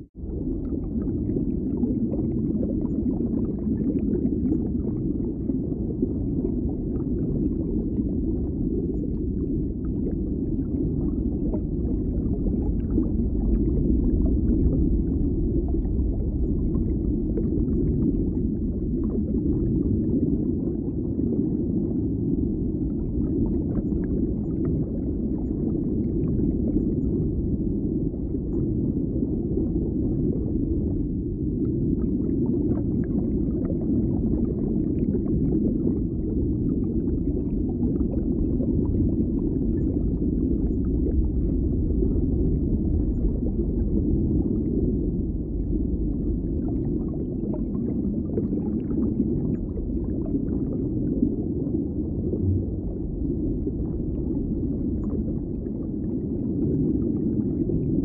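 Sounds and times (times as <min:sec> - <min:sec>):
muffled low rumble: 0:00.0 - 0:58.0.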